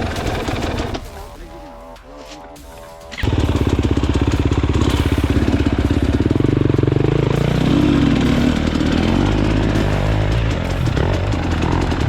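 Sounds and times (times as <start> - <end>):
motorcycle engine running: 0.0 - 1.1, 3.2 - 12.0.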